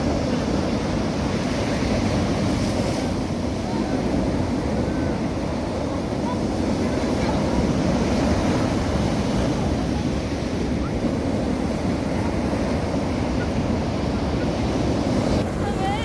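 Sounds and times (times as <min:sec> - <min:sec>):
sea surf washing onto beach: 0:00.0 - 0:16.0
wind buffeting microphone: 0:00.0 - 0:16.0.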